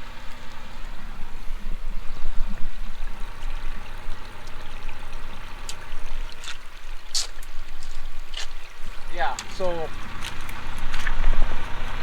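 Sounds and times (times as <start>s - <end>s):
steady low hum: 0.0s - 12.0s
water trickling across a field: 0.0s - 12.0s.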